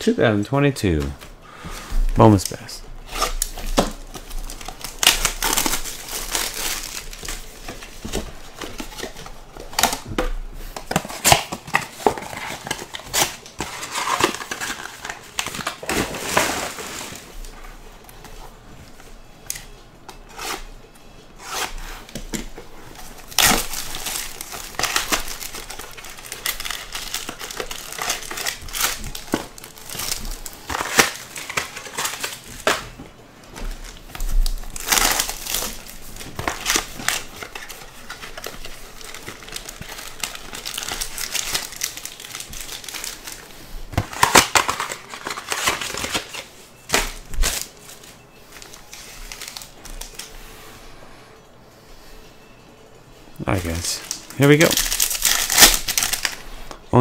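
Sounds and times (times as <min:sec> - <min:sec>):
shrink-wrap crinkling and tearing: 0:02.2 - 0:17.5, 0:21.4 - 0:50.4, 0:53.5 - 0:57.0.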